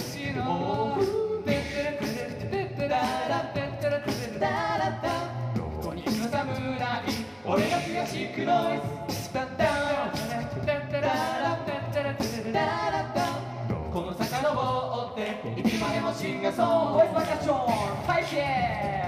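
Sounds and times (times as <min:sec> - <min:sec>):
male a cappella group singing: 0:00.0 - 0:19.0
vocal percussion beat: 0:00.0 - 0:19.0.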